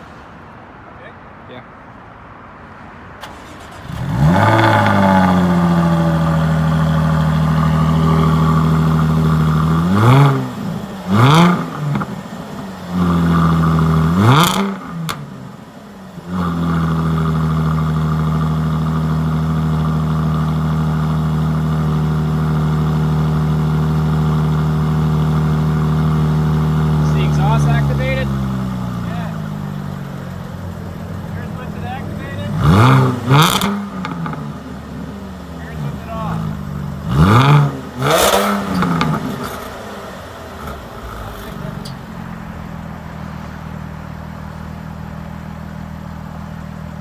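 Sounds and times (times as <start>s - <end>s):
car engine starting and idling: 2.7s - 47.0s
car engine revving: 3.2s - 47.0s.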